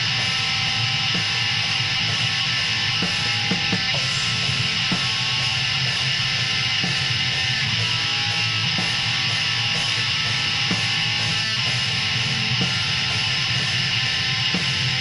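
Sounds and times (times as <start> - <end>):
distorted electric guitars: 0.0 - 15.0.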